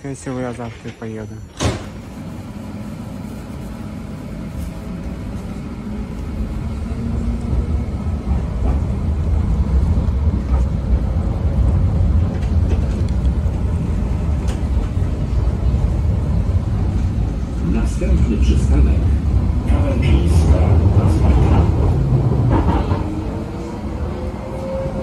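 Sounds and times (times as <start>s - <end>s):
tram cabin rumble: 0.0s - 25.0s.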